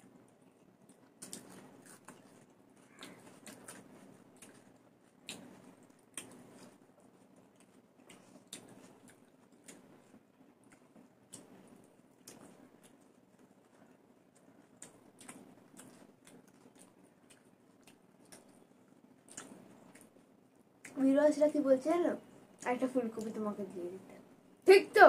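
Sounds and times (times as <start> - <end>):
chewing and mouth smacks: 0.0 - 21.0.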